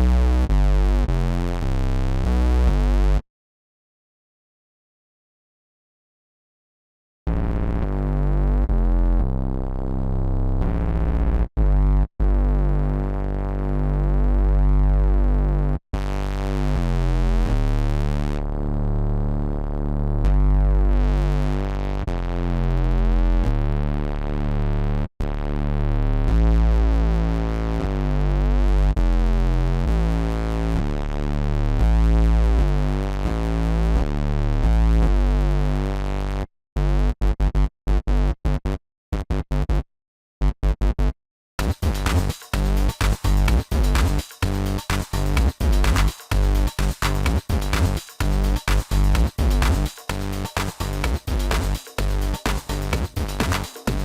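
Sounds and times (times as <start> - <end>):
electro house synth bass line: 7.3 - 39.8, 40.4 - 54.0.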